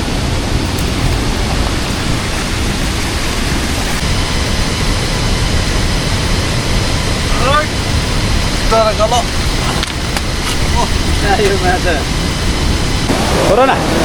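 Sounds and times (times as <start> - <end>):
river water rushing: 0.0 - 4.9, 7.3 - 14.0.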